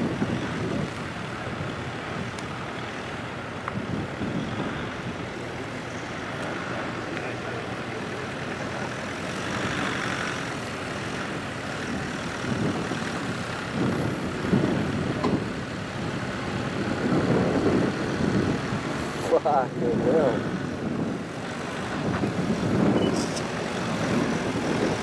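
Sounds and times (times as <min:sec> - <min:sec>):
off-road vehicle engine climbing: 0:00.0 - 0:25.0.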